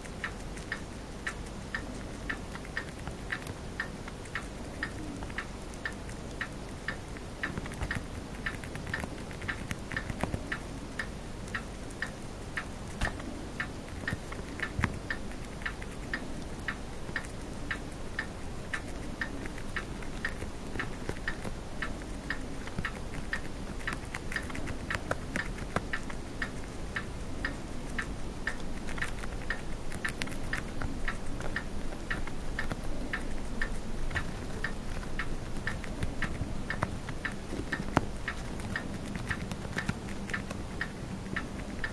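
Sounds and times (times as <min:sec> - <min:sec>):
hamster crunching leaf: 0:00.0 - 0:41.9.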